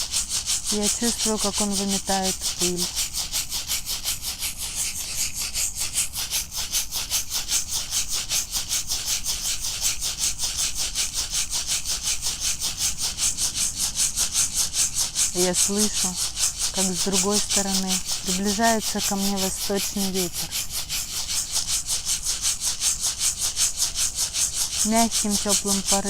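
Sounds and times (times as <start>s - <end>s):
rattle shaken in fast rhythm: 0.0s - 26.0s.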